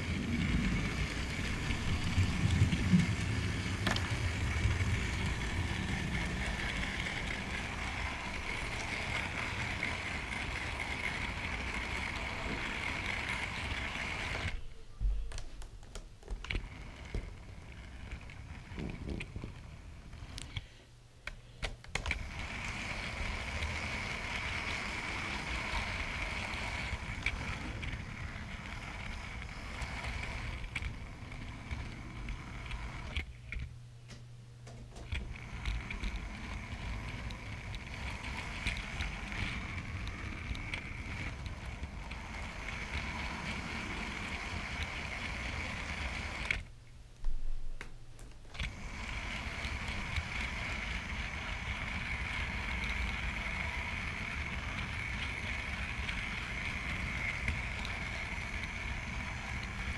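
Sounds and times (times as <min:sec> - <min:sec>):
clicking over rail joints: 0:00.0 - 0:14.6, 0:15.3 - 0:46.7, 0:48.2 - 0:59.9
wheels rumbling on rail: 0:00.0 - 0:14.6, 0:16.5 - 0:20.6, 0:22.1 - 0:33.3, 0:35.0 - 0:46.6, 0:48.6 - 0:59.9
faint motor whine: 0:00.0 - 0:59.9.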